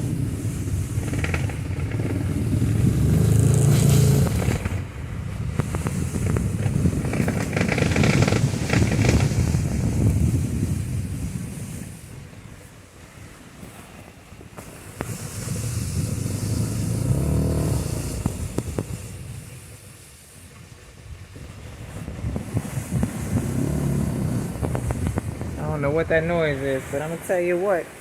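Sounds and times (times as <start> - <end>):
blizzard wind gusting: 0.0 - 20.4, 21.0 - 27.1.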